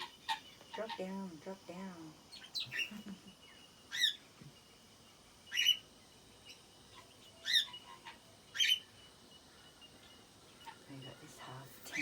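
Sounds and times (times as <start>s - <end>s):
bird chirping: 0.0s - 1.2s, 2.3s - 12.0s.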